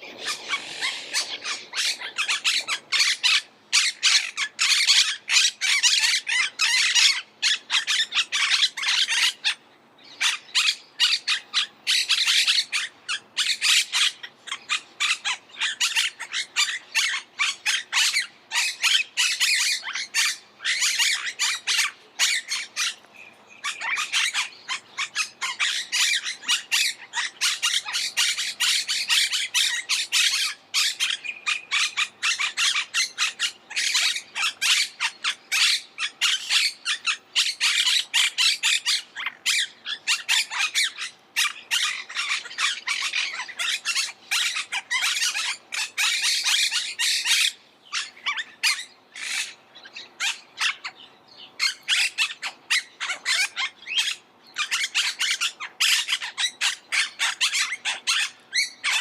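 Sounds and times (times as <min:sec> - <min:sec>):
parakeets squawking: 0:00.0 - 0:51.0, 0:51.6 - 0:59.0.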